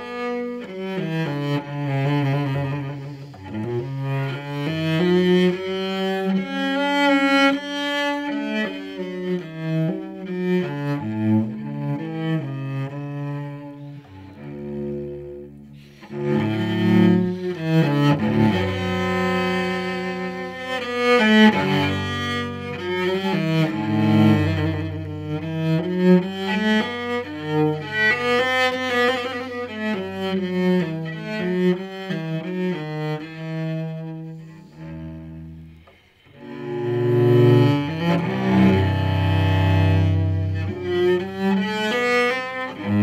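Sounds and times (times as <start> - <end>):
bowed cello sustained notes: 0.0 - 43.0.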